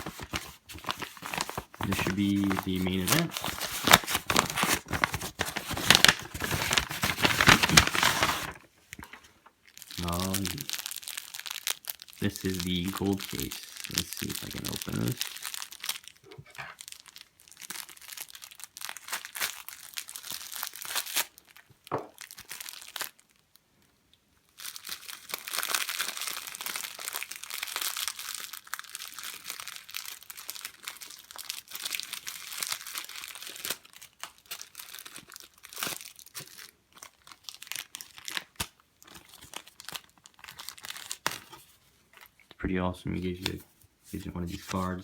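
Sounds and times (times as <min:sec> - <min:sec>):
packaging crinkling and tearing: 0:00.0 - 0:23.5, 0:24.5 - 0:42.5, 0:43.2 - 0:45.0.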